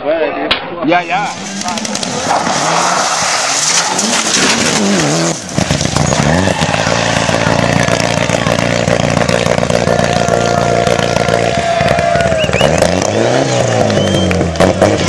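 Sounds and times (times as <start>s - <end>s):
rally car engine revving: 1.2s - 15.0s.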